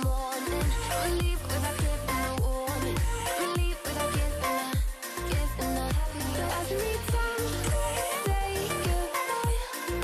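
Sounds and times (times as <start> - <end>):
pop music with electronic beat: 0.0 - 10.0.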